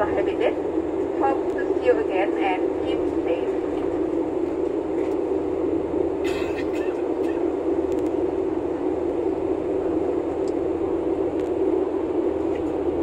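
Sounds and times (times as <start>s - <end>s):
airliner cabin engine hum: 0.0s - 13.0s.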